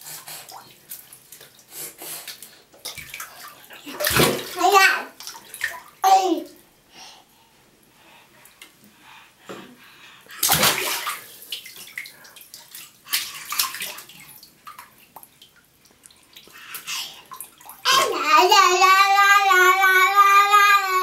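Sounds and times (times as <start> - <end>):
bathwater splashing: 0.0 - 6.6, 10.3 - 21.0.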